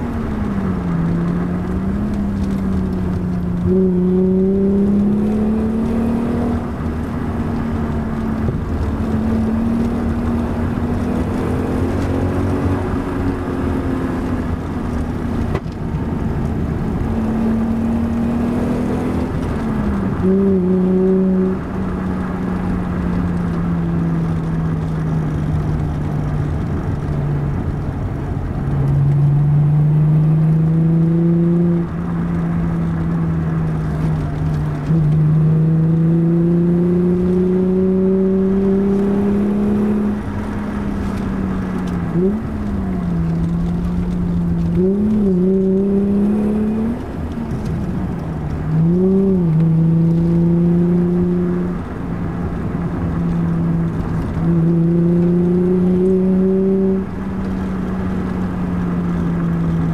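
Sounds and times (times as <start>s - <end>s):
car engine accelerating from inside: 0.0s - 59.9s.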